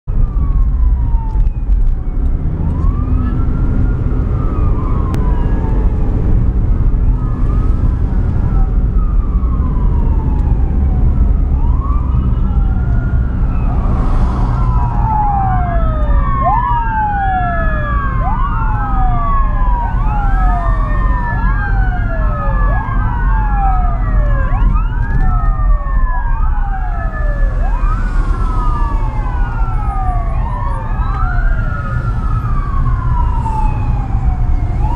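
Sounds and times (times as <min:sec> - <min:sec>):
car road and engine rumble: 0:00.1 - 0:34.9
sirens wailing: 0:00.1 - 0:34.9.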